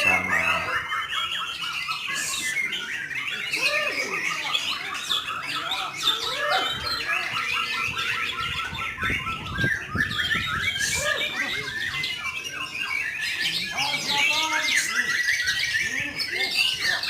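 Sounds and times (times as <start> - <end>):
songbirds singing in chorus: 0.0 - 17.0.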